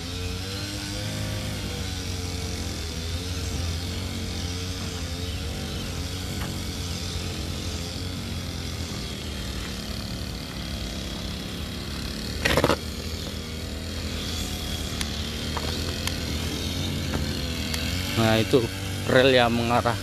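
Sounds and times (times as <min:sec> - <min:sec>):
grass cutter engine running: 0:00.0 - 0:20.0.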